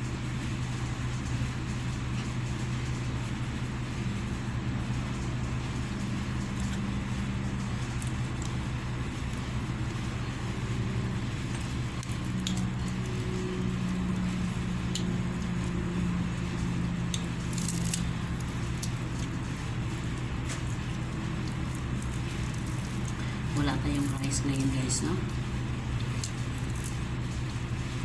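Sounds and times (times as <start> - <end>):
steady low hum: 0.0 - 28.0
chewing and crunching food: 0.4 - 28.0.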